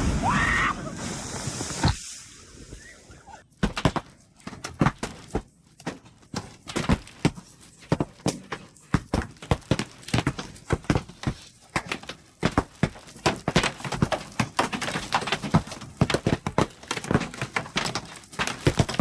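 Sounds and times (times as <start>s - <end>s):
horse hooves on a hard surface: 3.5s - 19.0s.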